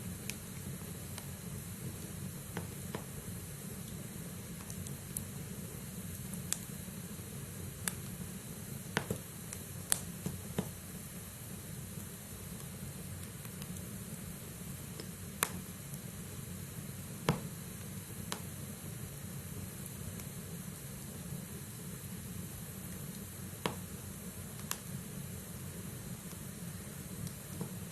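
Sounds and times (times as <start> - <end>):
burning wood crackling and popping: 0.0 - 18.7, 19.5 - 27.9
low rustle of fire flames: 0.0 - 27.9.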